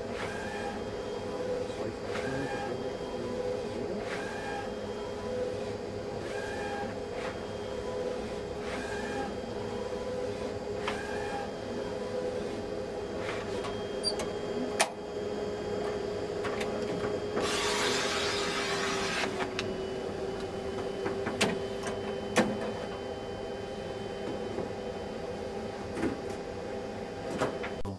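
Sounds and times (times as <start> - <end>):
printer machine hum: 0.0 - 27.9.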